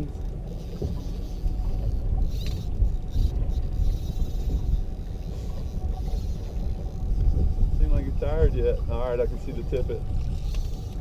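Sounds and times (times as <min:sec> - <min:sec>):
water noise around boat: 0:00.0 - 0:11.0
wind rumble: 0:00.0 - 0:11.0.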